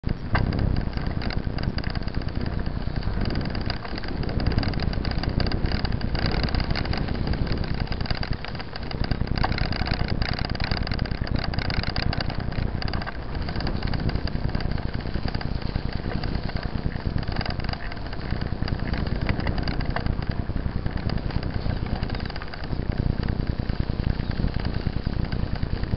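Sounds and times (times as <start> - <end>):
bike rattling on gravel road: 0.0 - 25.9.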